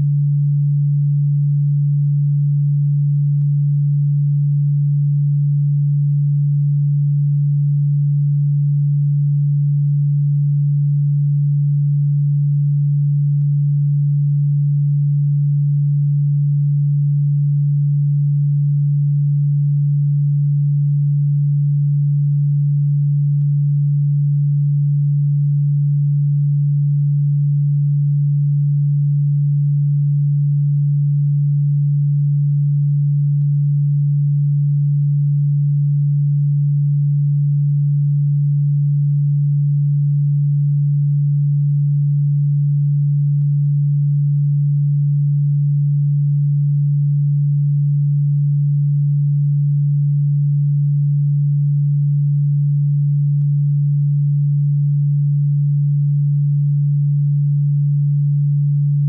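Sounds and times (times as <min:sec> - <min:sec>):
low sine tone hum: 0:00.0 - 0:59.0.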